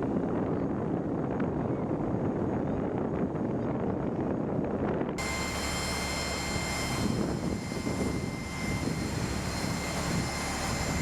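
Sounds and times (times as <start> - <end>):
boat engine drone with whine: 0.0 - 11.0.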